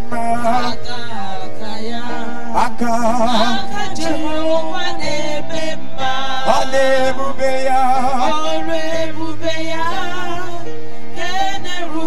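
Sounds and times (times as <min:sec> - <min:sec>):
sustained chords: 0:00.0 - 0:11.5
person singing with vibrato: 0:00.0 - 0:12.0.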